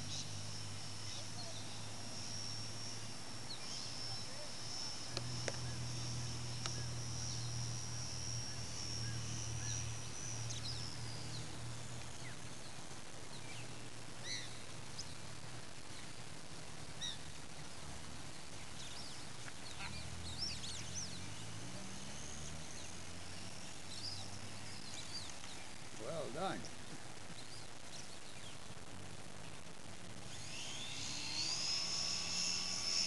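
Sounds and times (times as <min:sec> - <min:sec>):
model plane motor whining: 0:00.0 - 0:33.0.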